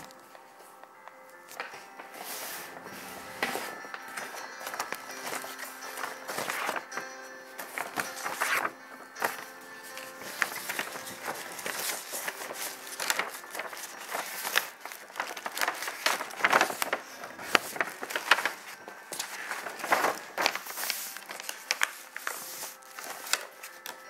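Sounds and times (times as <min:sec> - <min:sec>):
crinkling: 0:00.0 - 0:24.0.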